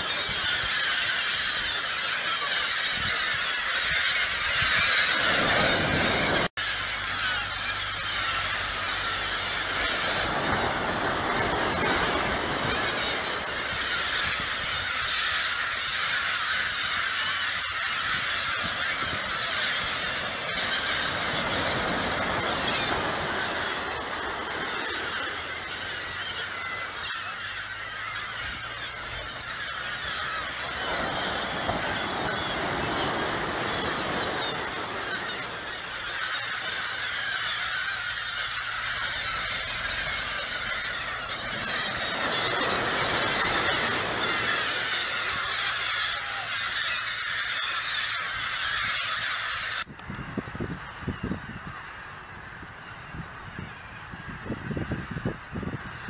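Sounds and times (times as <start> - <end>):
flock of gulls calling: 0.0 - 56.0.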